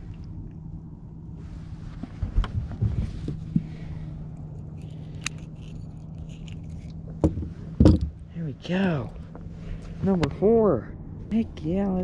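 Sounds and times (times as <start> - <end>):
boat low hum: 0.0 - 12.0.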